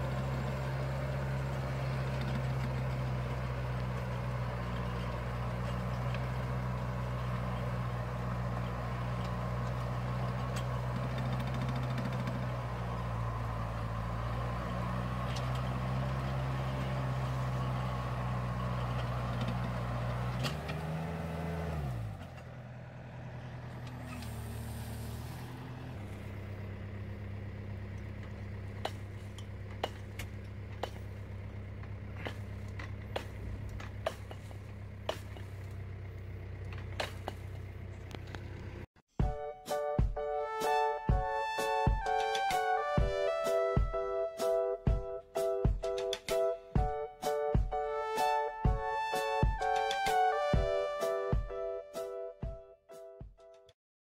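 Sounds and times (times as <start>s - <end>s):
tractor diesel engine: 0.0s - 52.6s.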